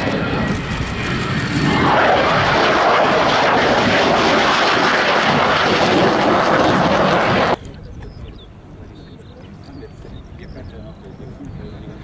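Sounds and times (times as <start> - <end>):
jet engine flying past: 0.0 - 12.0.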